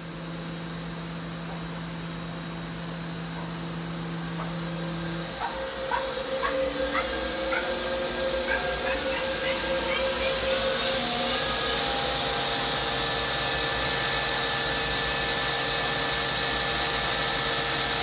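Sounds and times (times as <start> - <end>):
machine hiss: 0.0 - 18.0
machining center electric hum: 0.0 - 18.0.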